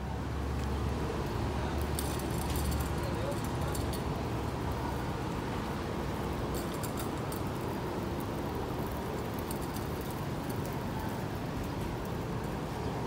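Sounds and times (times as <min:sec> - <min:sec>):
low city hum: 0:00.0 - 0:13.0.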